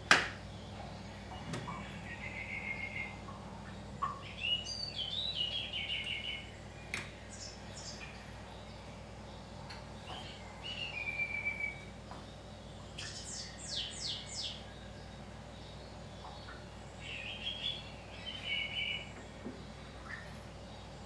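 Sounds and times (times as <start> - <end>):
faint steady hum: 0.0 - 21.0
small birds chirping: 0.2 - 21.0.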